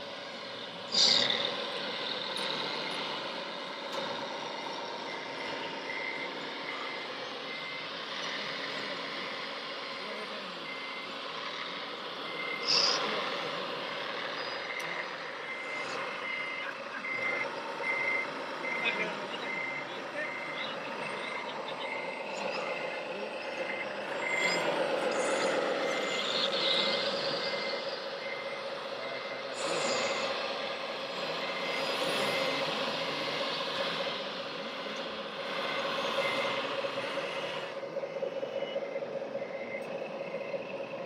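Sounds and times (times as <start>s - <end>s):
steady whine: 0.0s - 41.0s
reversing beeper: 0.1s - 41.0s.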